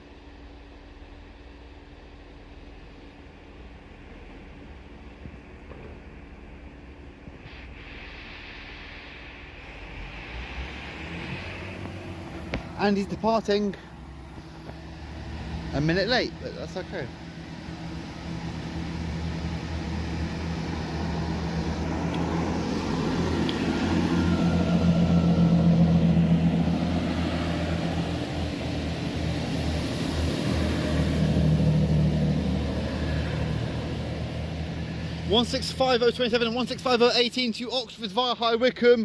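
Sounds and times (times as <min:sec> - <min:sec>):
diesel train engines running: 0:00.0 - 0:39.0.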